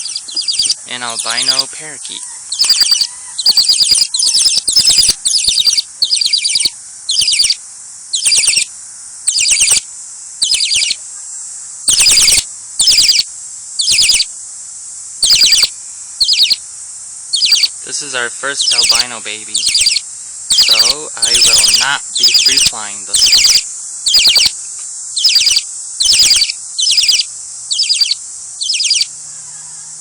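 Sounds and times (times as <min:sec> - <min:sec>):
parakeet chick begging calls: 0:00.0 - 0:08.7, 0:09.3 - 0:09.8, 0:10.4 - 0:11.0, 0:11.9 - 0:14.3, 0:15.2 - 0:16.6, 0:17.3 - 0:24.6, 0:25.2 - 0:29.1.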